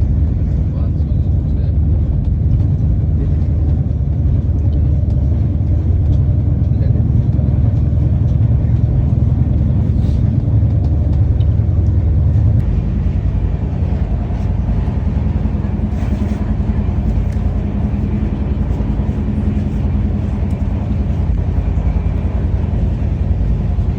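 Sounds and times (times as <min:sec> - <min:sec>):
steady hum: 0:00.0 - 0:23.9
train rumbling: 0:00.0 - 0:23.9.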